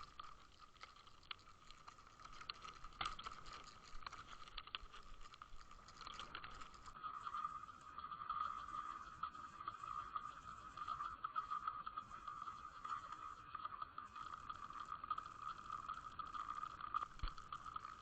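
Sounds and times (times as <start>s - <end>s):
crackles and clicks: 0.0s - 18.0s.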